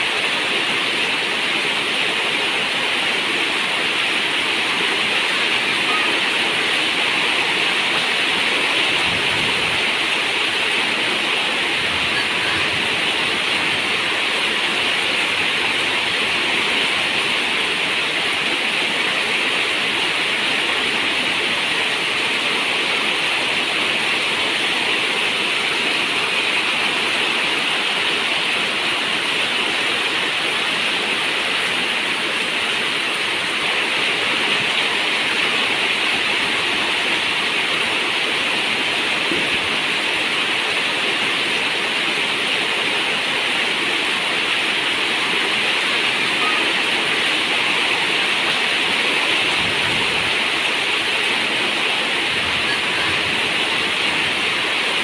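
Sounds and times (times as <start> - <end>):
heavy rain on metal roof: 0.0 - 55.0.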